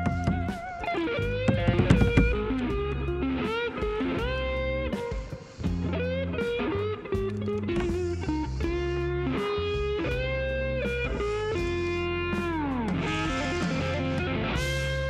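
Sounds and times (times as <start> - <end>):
electric guitar lead melody: 0.0 - 15.0
sustained bass notes: 0.0 - 15.0.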